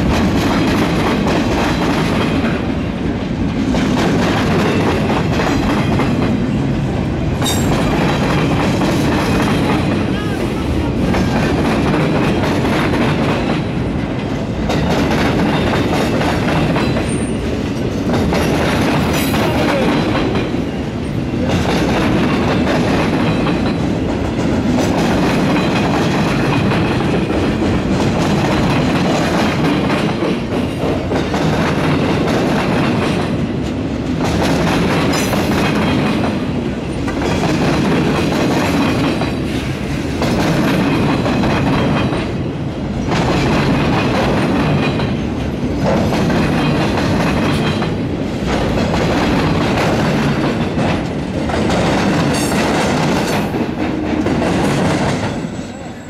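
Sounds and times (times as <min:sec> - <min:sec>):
train wheels clattering over crossing: 0:00.0 - 0:56.0.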